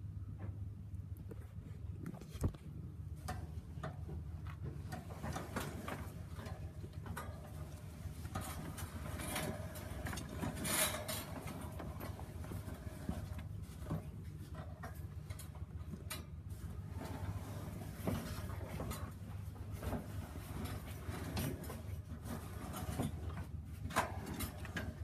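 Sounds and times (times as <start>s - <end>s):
steady low hum: 0.0s - 25.0s
small clicks and scrapes: 1.2s - 25.0s.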